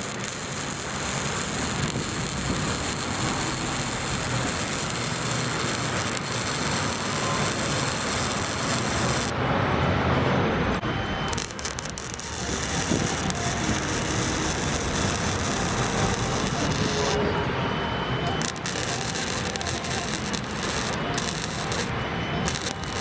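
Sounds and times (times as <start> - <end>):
welder arc crackling and sizzling: 0.0 - 9.3, 11.3 - 17.2, 18.4 - 23.0.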